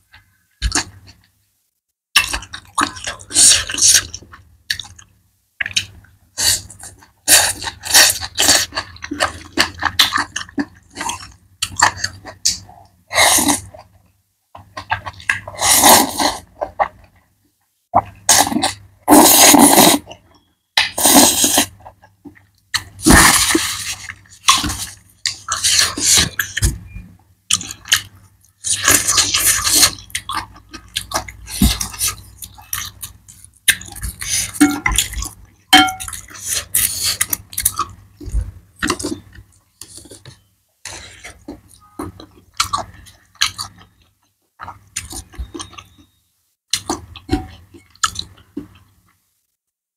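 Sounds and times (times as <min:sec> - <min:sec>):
slurping and chewing: 0:02.2 - 0:17.2, 0:18.0 - 0:49.1.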